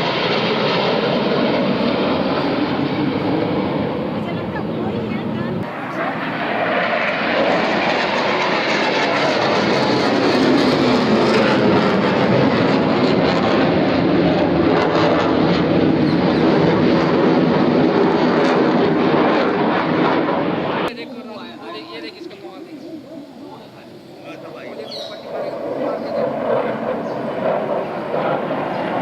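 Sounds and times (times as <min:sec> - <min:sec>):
military jet engine rushing: 0:00.0 - 0:29.0.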